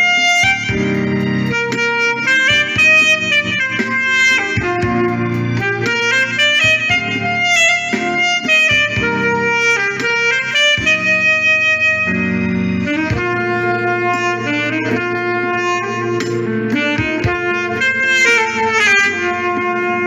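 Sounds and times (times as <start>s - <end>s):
bass and keyboard backing track: 0.0s - 20.0s
saxophone melody: 0.0s - 20.0s.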